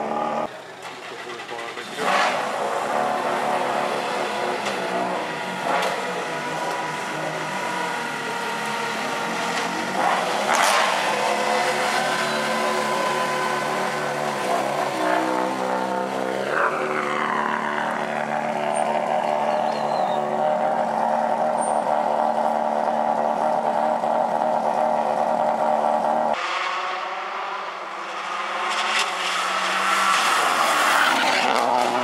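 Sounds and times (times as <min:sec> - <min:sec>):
rally car engine at low revs: 0:00.0 - 0:32.0.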